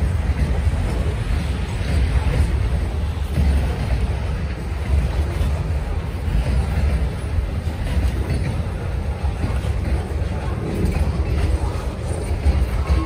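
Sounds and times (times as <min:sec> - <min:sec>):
train wheels rumbling on track: 0:00.0 - 0:13.0
wheels clickety-clack: 0:00.0 - 0:13.0.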